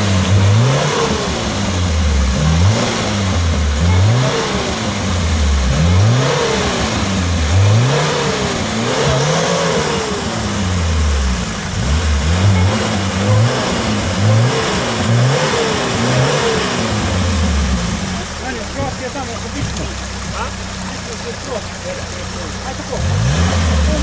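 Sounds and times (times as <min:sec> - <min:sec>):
car engine revving hard: 0:00.0 - 0:24.0
water splashing: 0:00.1 - 0:24.0.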